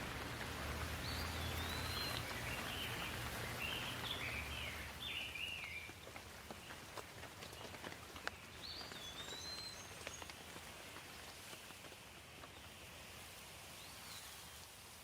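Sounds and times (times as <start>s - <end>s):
light rain: 0.0s - 15.0s.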